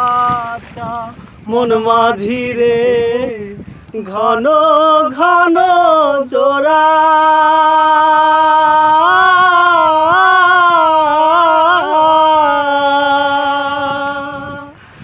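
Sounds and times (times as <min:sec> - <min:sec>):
man singing unaccompanied: 0:00.0 - 0:14.8.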